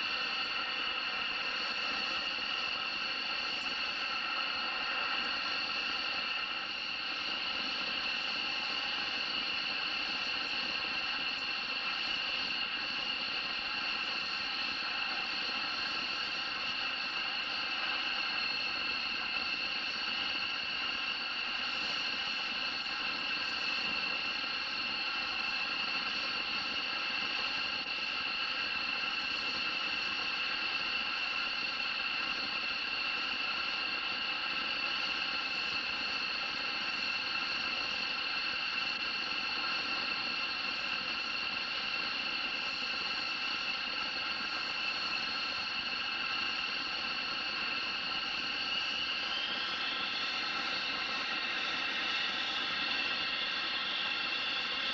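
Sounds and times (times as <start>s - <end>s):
jet turbine whine: 0.0s - 54.9s.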